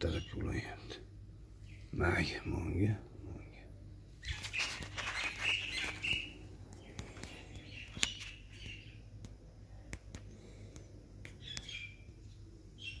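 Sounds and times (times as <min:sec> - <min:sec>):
birds chirping: 0:00.0 - 0:09.2, 0:10.3 - 0:13.0.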